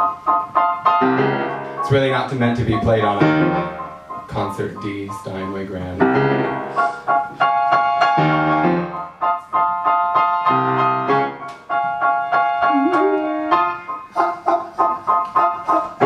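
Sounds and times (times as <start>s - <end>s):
grand piano playing chords: 0.0s - 16.0s.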